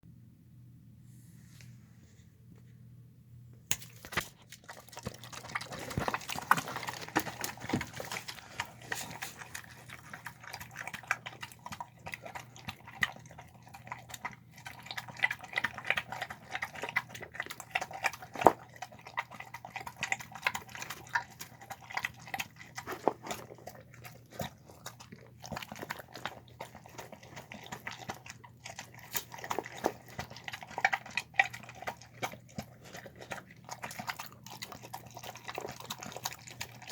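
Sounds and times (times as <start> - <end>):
dog chewing food: 3.7 - 36.9.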